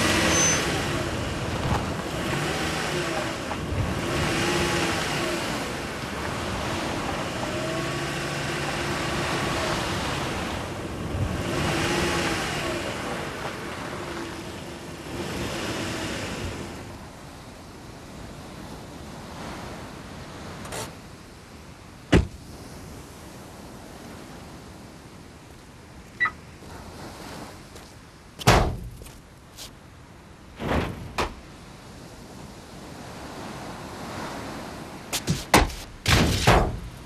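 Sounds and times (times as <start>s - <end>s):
ocean surf rushing: 0.0s - 37.0s
wind: 0.0s - 37.0s.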